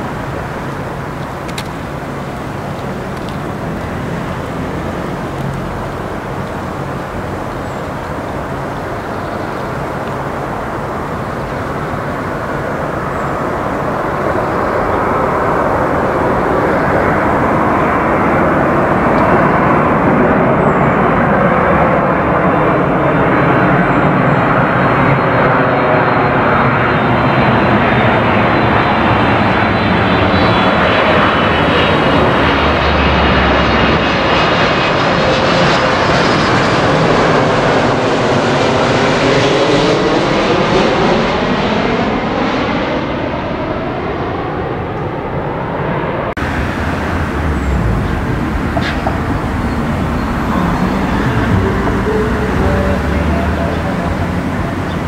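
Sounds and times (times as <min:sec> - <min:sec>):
high engine whine: 0:00.0 - 0:55.0
jet airliner engine noise: 0:00.0 - 0:55.0.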